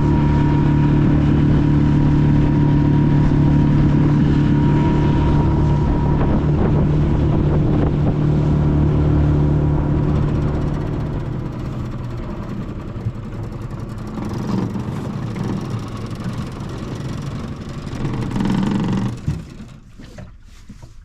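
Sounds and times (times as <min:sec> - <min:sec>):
wind buffeting microphone: 0:00.0 - 0:19.2
boat motor running: 0:00.0 - 0:21.0.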